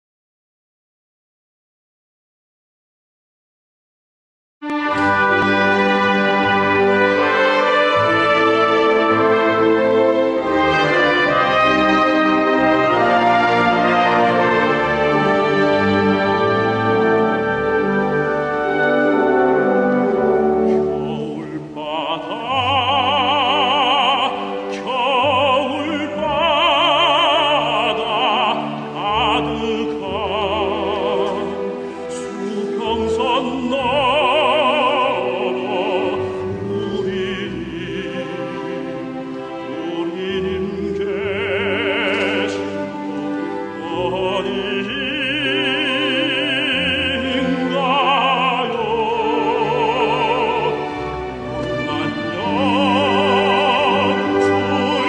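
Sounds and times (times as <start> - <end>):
instrumental accompaniment: 4.6 - 55.0
tenor singing operatic song: 4.6 - 55.0.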